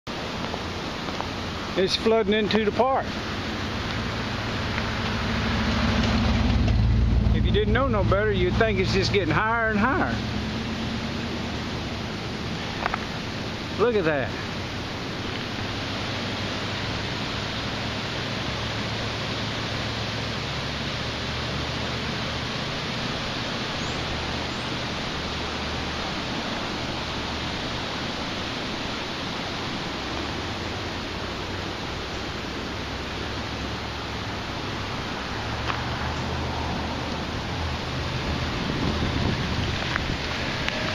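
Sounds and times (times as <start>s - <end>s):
river rushing: 0.1s - 40.9s.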